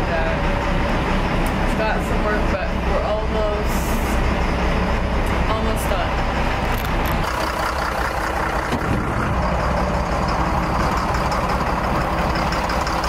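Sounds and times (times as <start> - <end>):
marine diesel engine rumbling: 0.0 - 13.0.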